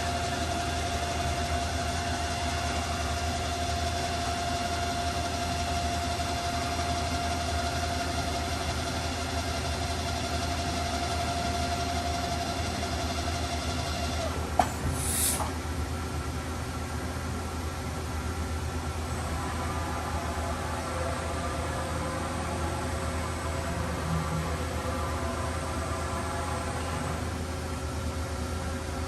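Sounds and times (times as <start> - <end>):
machine whine: 0.0 - 15.7, 17.4 - 29.0
low machine hum: 0.0 - 29.0.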